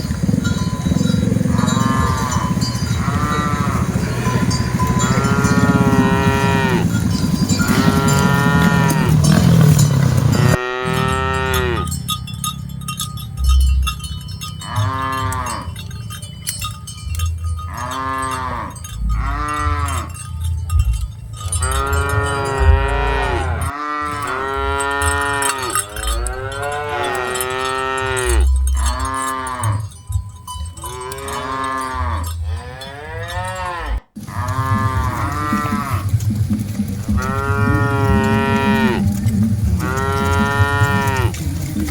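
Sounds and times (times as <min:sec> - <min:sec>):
cattle mooing: 0:00.0 - 0:12.2, 0:14.6 - 0:15.9, 0:17.6 - 0:20.2, 0:21.4 - 0:29.9, 0:30.8 - 0:41.9.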